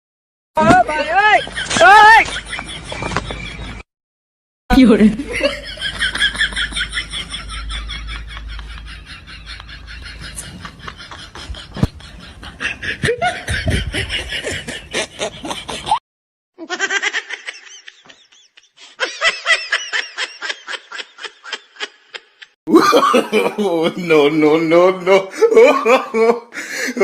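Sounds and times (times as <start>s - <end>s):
laughter in bursts: 1.1s - 3.8s, 5.2s - 16.0s, 16.6s - 24.0s, 25.0s - 27.0s.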